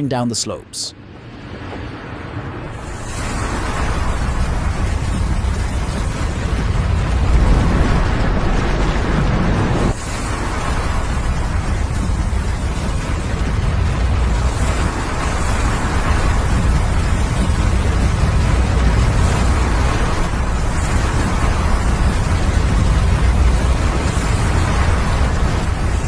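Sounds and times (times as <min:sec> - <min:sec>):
avalanche rumbling roar: 0:01.2 - 0:26.0.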